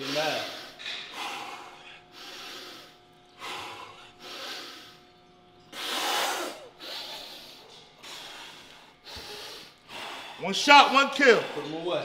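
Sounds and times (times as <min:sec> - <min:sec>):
man breathing hard: 0:00.0 - 0:05.1, 0:05.7 - 0:12.0.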